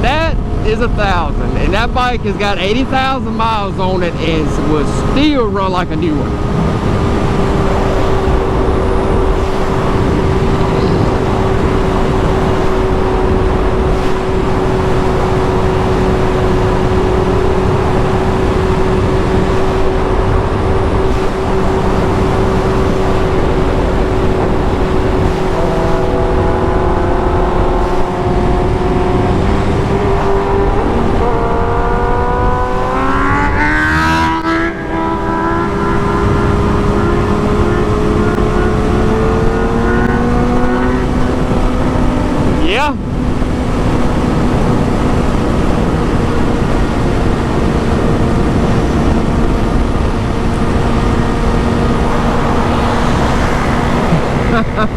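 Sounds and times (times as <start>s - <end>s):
second engine: 0.0s - 54.9s
wind noise: 0.0s - 54.9s
motorcycle engine running: 1.3s - 54.9s.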